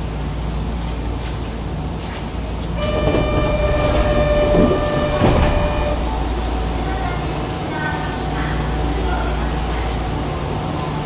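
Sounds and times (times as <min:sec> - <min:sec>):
train rumbling at platform: 0:00.0 - 0:11.0.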